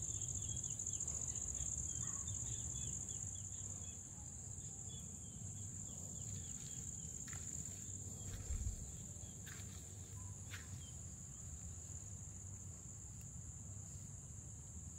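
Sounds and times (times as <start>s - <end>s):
insects chirring: 0.0s - 13.8s.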